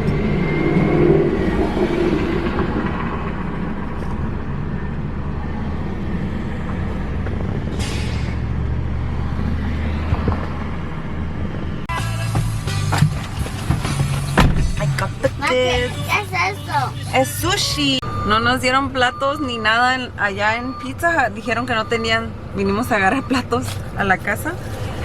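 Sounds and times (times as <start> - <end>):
car engine and road hum: 0.0 - 25.0.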